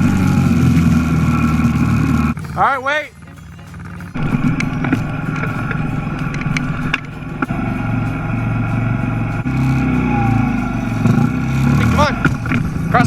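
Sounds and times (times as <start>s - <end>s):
dirt bike engines buzzing: 0.0s - 13.0s.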